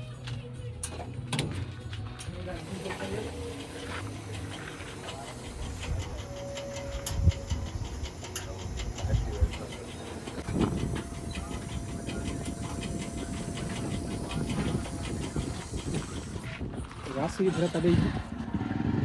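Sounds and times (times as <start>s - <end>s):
diesel engine ticking clatter: 2.2s - 19.0s
steady whine: 2.3s - 18.3s.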